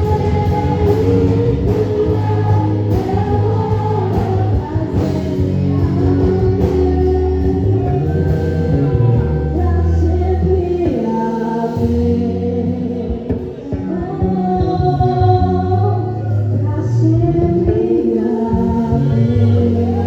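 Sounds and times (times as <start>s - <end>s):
live gospel music with vocals: 0.0s - 20.0s.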